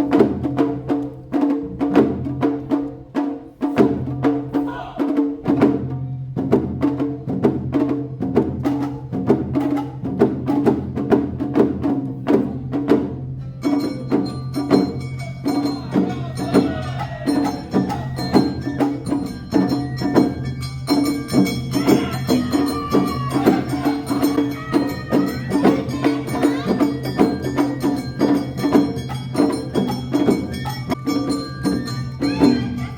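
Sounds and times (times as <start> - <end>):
festival music with drums: 0.0 - 32.9.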